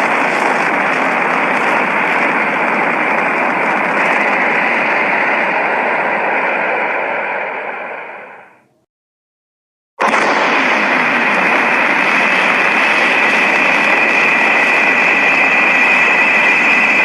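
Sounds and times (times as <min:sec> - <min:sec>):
steady rushing noise: 0:00.0 - 0:08.8, 0:10.0 - 0:17.0.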